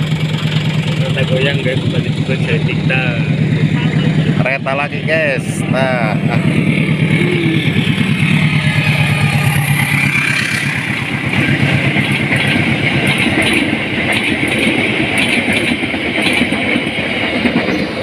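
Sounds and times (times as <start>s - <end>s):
locomotive engine hum: 0.0s - 18.0s
train wheels rumbling and clattering: 0.0s - 18.0s.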